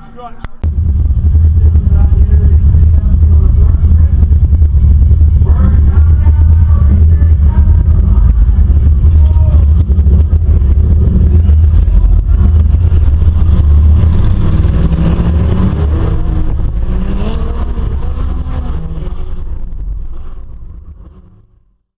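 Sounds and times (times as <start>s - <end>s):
race car engines rumbling: 0.0s - 21.8s.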